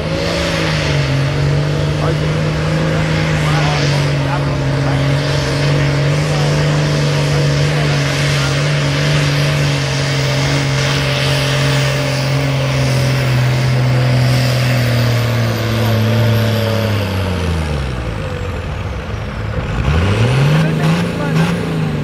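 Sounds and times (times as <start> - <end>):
diesel tractor engine at full throttle: 0.0 - 22.0.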